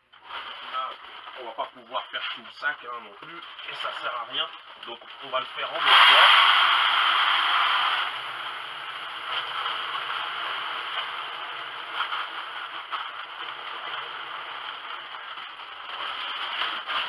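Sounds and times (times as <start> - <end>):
seeds pouring into a container: 0.1 - 17.0.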